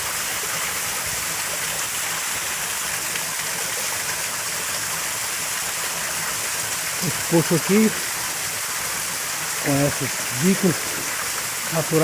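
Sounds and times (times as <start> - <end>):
creek rushing over stones: 0.0 - 12.0.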